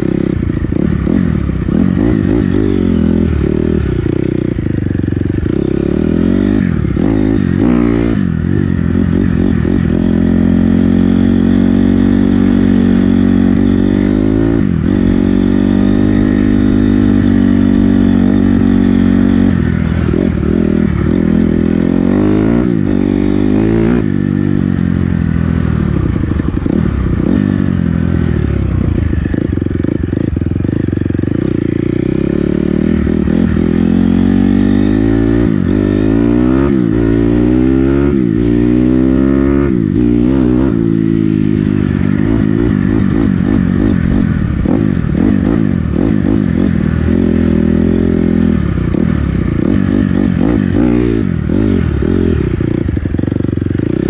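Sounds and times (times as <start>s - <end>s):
small motorbike engine revving: 0.0s - 54.0s.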